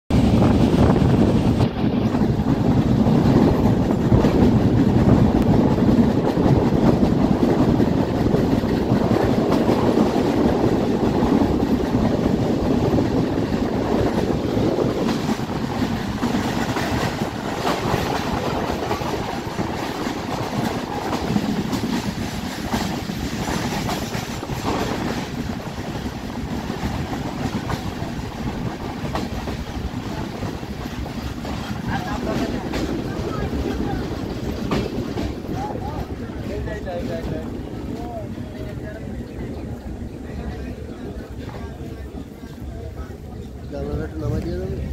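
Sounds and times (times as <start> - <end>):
train wheels rumbling on rails: 0.1 - 44.9.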